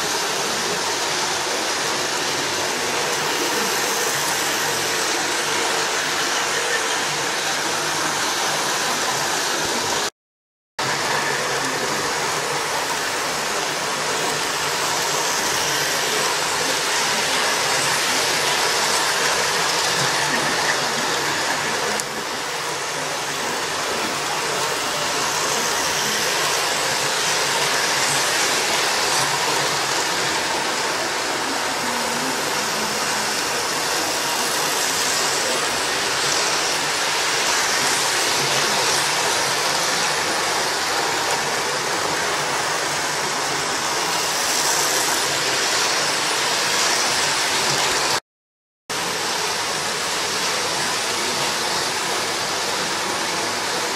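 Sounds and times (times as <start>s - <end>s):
model trains whirring on rails: 0.0s - 10.1s, 10.8s - 48.2s, 48.9s - 53.9s.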